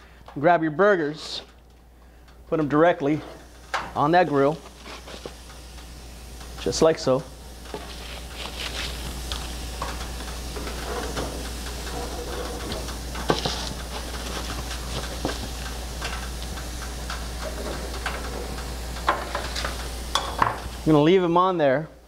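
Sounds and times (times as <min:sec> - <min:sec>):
burger patties sizzling on grill: 0:02.6 - 0:21.2.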